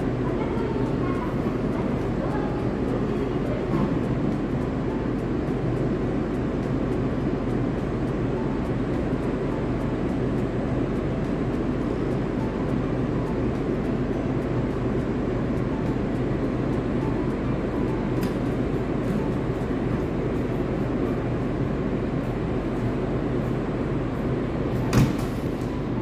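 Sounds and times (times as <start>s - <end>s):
train equipment humming: 0.0s - 26.0s.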